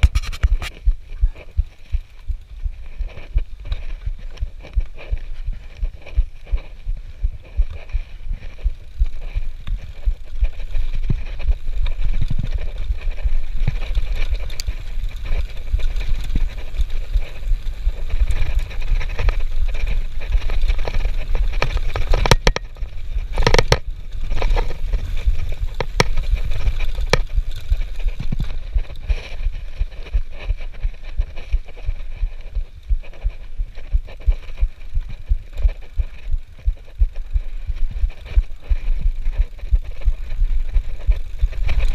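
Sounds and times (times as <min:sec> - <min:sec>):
bike rattling over bumps: 0:00.0 - 0:41.9
wind and tyre rumble: 0:00.0 - 0:41.9.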